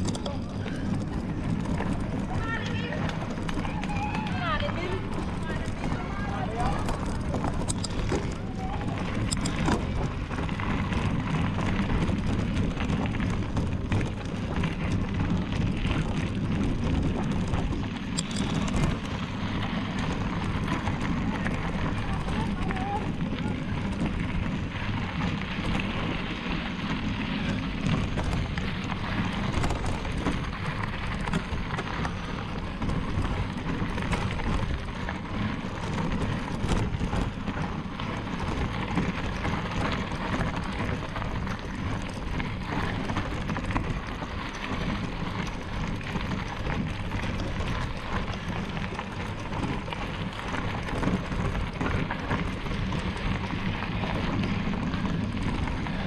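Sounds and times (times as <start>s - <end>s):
bike parts rattling: 0.0s - 56.0s
bike tyres clattering on rough ground: 0.0s - 56.0s.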